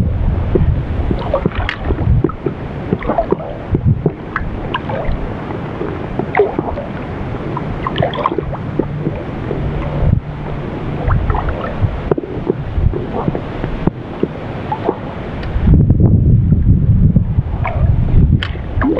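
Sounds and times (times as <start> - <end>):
water lapping against boat: 0.0 - 15.8, 17.3 - 18.9
wind on microphone: 0.0 - 18.9.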